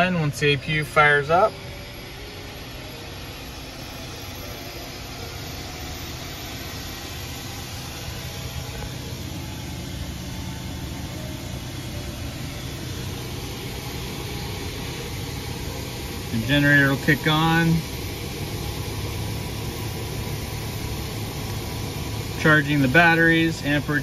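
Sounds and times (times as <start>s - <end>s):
auxiliary power unit hum: 0.0s - 24.0s.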